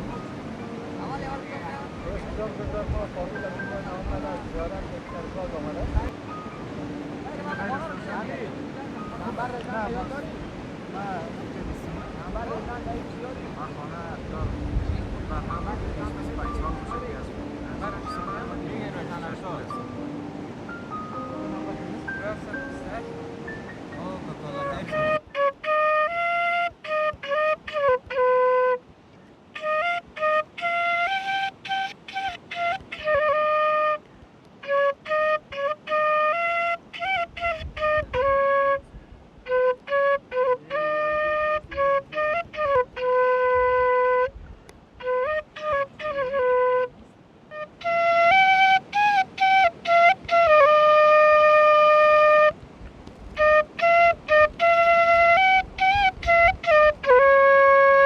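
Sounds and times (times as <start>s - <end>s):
solo flute melody: 0.0s - 44.4s, 45.0s - 52.6s, 53.2s - 58.0s.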